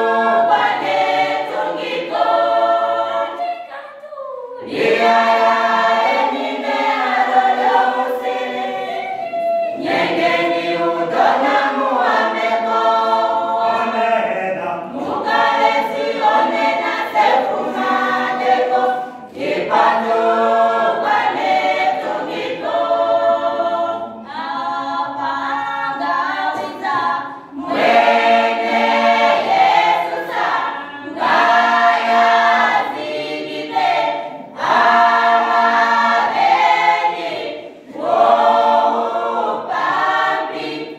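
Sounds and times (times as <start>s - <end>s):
choir singing a cappella: 0.0s - 40.9s.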